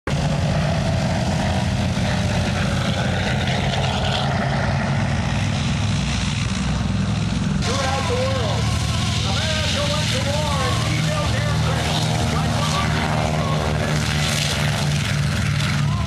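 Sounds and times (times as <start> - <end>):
propeller aircraft droning: 0.1 - 16.0.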